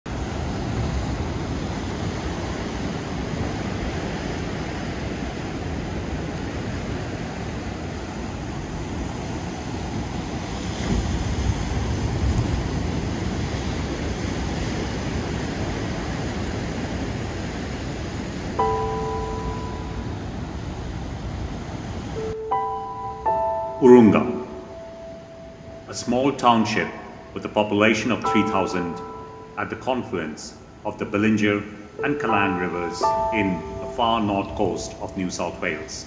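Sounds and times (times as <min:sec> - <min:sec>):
ocean waves breaking: 0:00.1 - 0:36.0.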